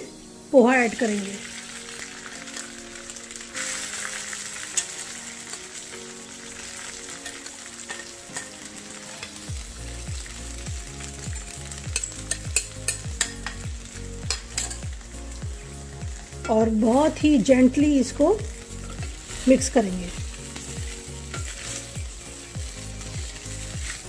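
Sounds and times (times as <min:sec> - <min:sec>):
oil sizzling in pan: 0:00.0 - 0:24.0.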